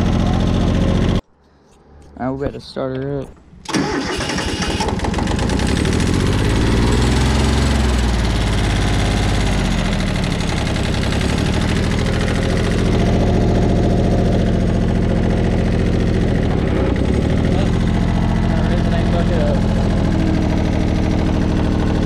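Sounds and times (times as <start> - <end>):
tractor diesel engine running: 0.0 - 1.2, 3.6 - 22.0.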